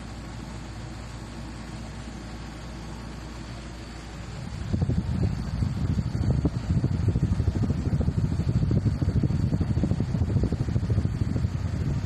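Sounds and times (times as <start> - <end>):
ceiling fan air rush: 0.0 - 12.0.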